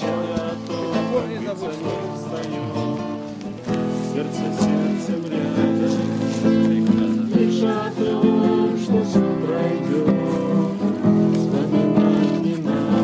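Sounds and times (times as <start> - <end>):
strummed acoustic guitar music: 0.0 - 13.0.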